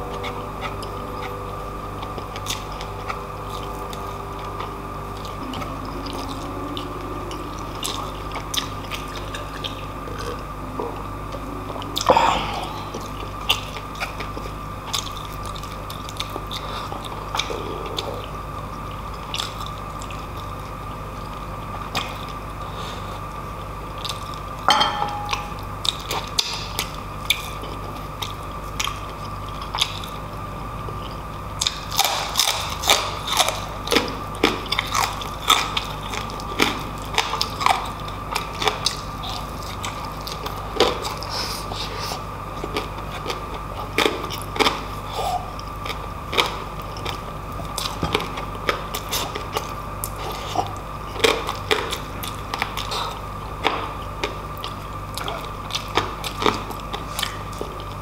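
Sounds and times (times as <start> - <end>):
chewing and mouth sounds: 0.0 - 58.0
faint steady hum: 0.0 - 58.0.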